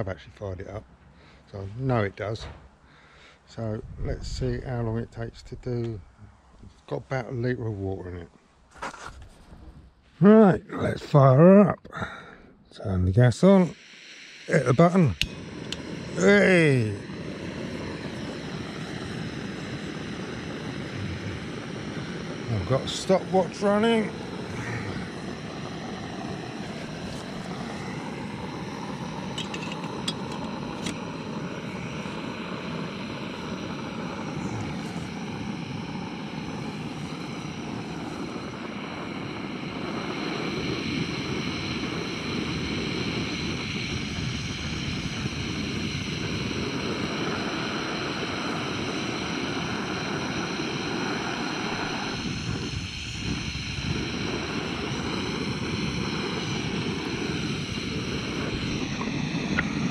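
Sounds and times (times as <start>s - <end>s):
gas burner roaring hiss: 0.0s - 59.9s.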